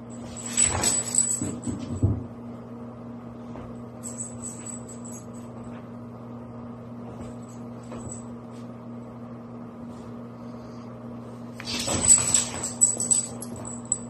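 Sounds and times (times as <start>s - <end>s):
low hum of room machinery: 0.0s - 14.0s.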